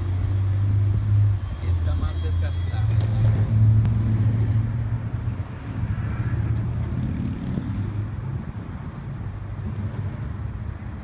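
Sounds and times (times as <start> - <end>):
diesel train engine drone: 0.0 - 9.4.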